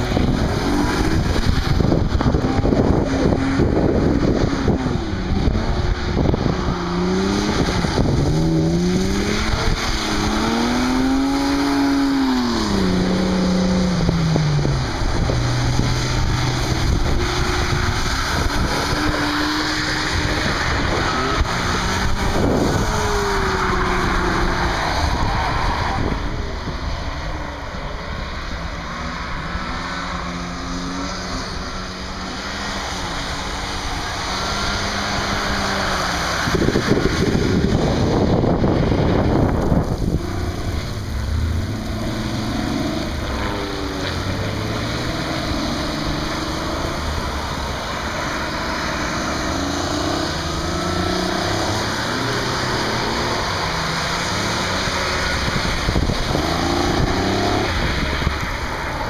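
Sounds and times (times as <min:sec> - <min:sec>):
car engines revving: 0:00.0 - 0:59.0
loud rushing noise: 0:00.0 - 0:59.0.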